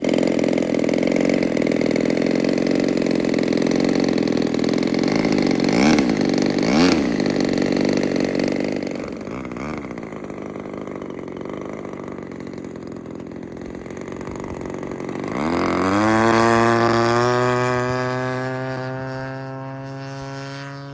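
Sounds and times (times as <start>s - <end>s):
model plane engine running: 0.0s - 20.9s.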